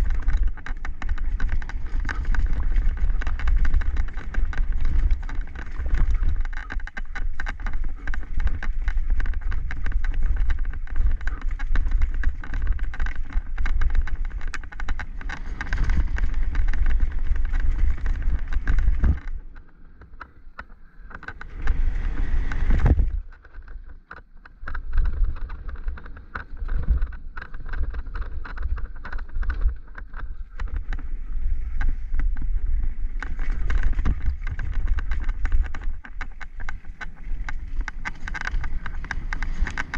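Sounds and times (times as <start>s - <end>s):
wind buffeting microphone: 0.0s - 19.6s, 21.1s - 23.8s, 24.6s - 39.9s
bike rattling over bumps: 0.0s - 39.9s.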